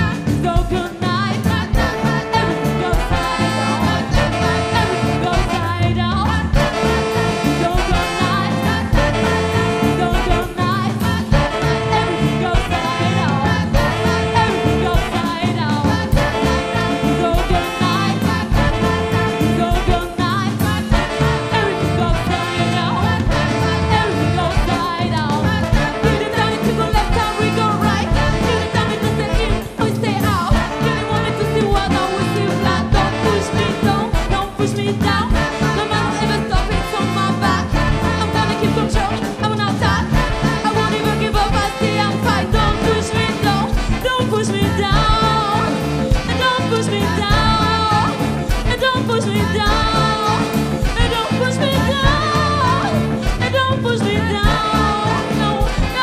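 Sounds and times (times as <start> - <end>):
live band playing: 0.0 - 56.0
woman singing: 0.0 - 56.0.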